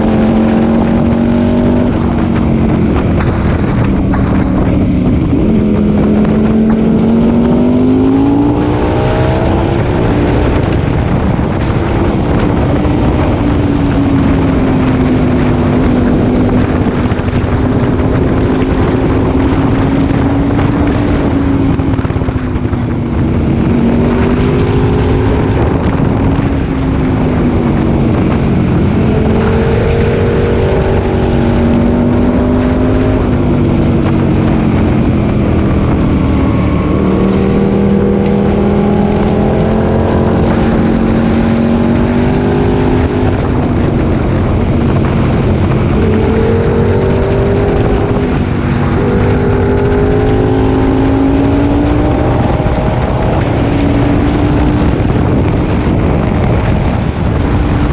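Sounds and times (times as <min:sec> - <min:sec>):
motorcycle engine revving: 0:00.0 - 0:57.9
wind rush on microphone: 0:00.0 - 0:57.9.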